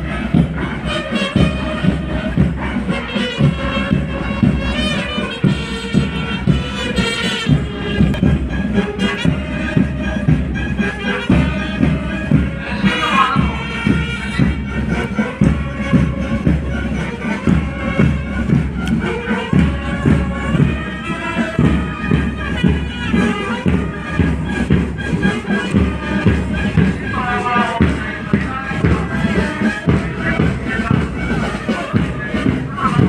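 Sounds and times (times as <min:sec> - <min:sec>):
steady drum beat: 0:00.0 - 0:33.0
wind instruments playing march: 0:00.0 - 0:33.0.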